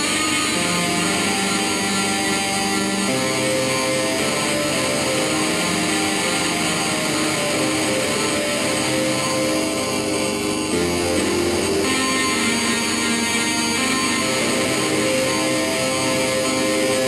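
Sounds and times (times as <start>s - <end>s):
low drone tones: 0.0s - 17.0s.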